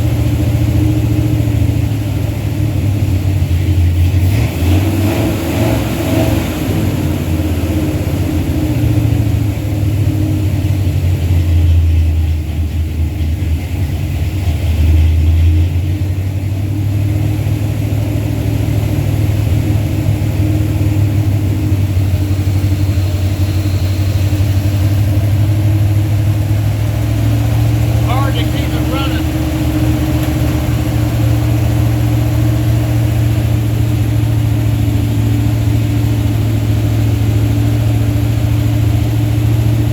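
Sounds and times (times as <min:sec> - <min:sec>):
engine idling and revving: 0:00.0 - 0:39.9.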